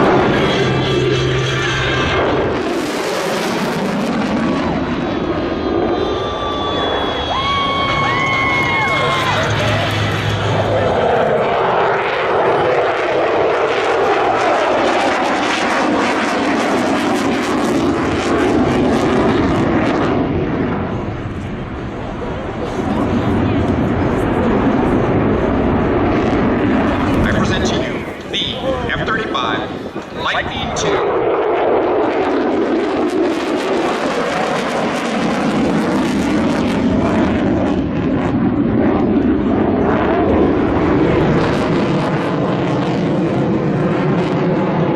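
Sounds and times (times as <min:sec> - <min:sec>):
airplane flying past: 0:00.0 - 0:44.9
fighter jet engine crackling roar: 0:00.0 - 0:44.9.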